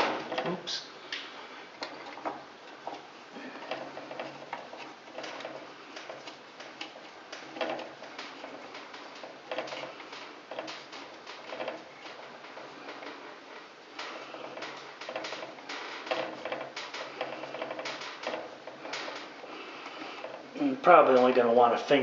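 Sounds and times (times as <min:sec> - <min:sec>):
hands clicking and scraping on parts: 0:00.0 - 0:21.5.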